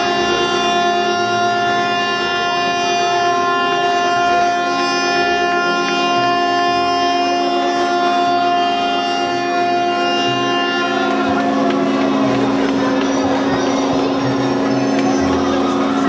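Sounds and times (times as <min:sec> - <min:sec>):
ship horns and sirens chord: 0:00.0 - 0:16.0.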